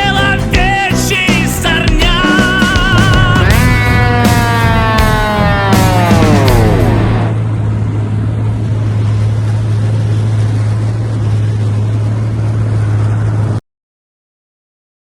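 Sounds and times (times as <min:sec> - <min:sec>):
rushing noise: 0:01.0 - 0:13.6
low drone: 0:01.6 - 0:13.6.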